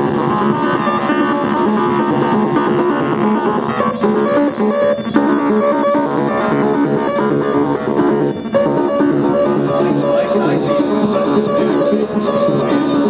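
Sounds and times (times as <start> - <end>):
electronic noise music: 0.0 - 13.0.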